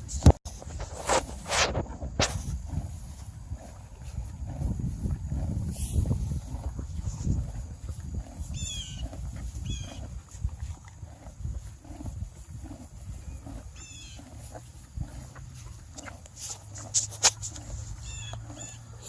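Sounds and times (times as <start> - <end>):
horse chewing feed: 0.0 - 19.0.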